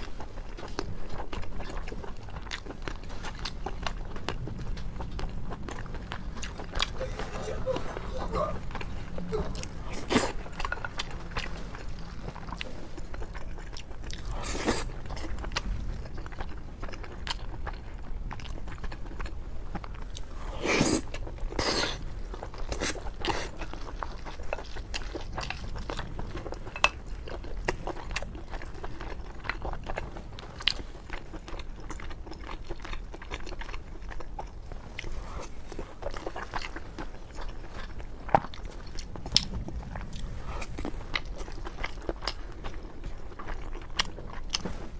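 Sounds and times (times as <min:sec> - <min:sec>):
person chewing and biting: 0:00.0 - 0:44.9
steady low hum: 0:00.0 - 0:44.9.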